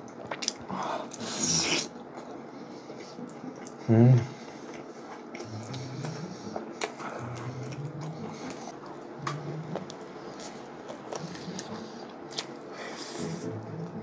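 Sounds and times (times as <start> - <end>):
chewing fried chicken: 0.0 - 14.0.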